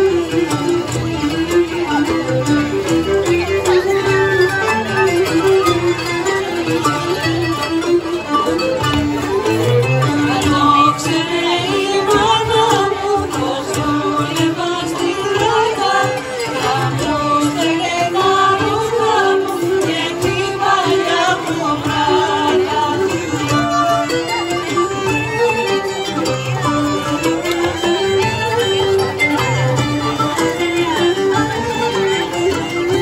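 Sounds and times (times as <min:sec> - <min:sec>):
folk dance band music: 0:00.0 - 0:33.0.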